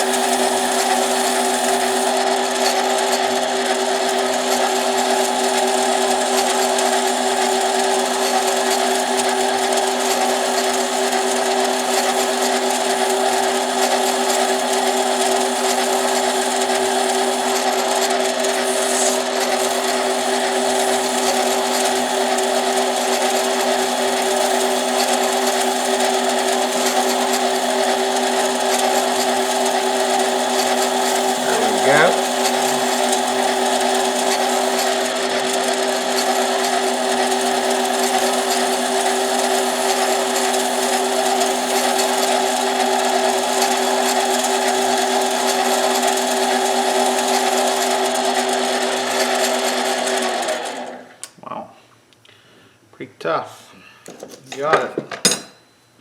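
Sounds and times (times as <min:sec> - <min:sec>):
lathe motor humming: 0:00.0 - 0:51.1.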